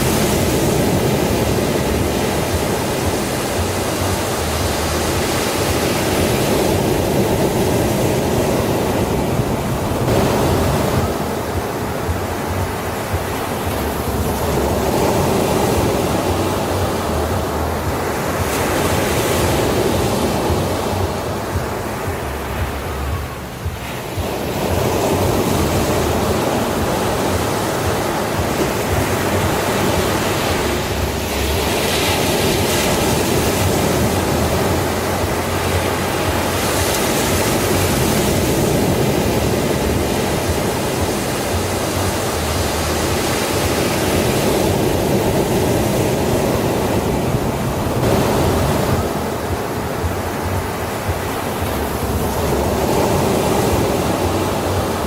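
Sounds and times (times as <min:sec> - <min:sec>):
sea waves breaking on a beach: 0:00.0 - 0:55.0.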